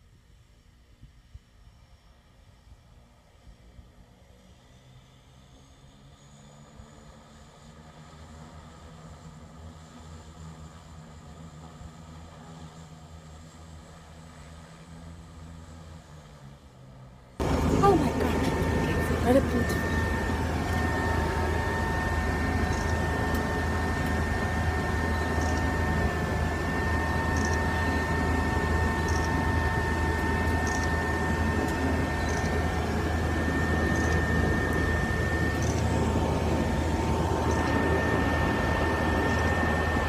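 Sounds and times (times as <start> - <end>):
propeller engine droning: 0.0 - 40.0.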